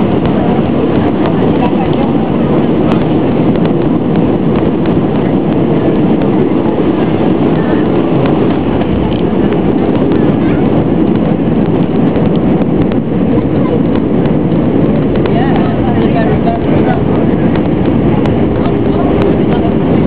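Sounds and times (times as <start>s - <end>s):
jet engines roaring in cabin: 0.0s - 20.0s.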